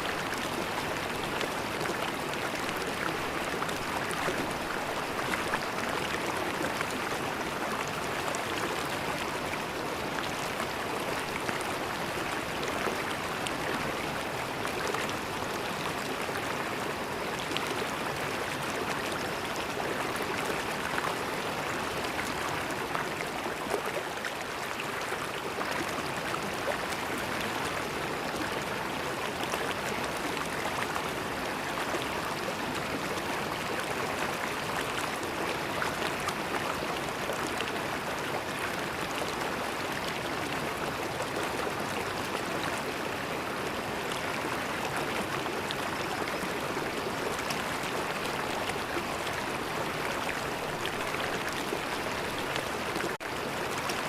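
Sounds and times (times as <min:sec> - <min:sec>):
river water gurgling over stones: 0:00.0 - 0:54.0.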